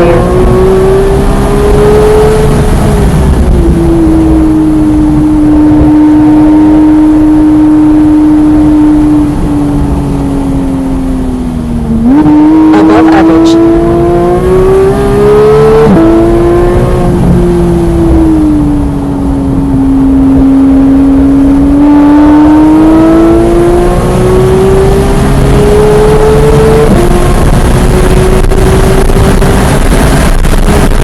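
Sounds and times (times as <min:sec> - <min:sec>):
sports car engine revving: 0:00.0 - 0:31.0.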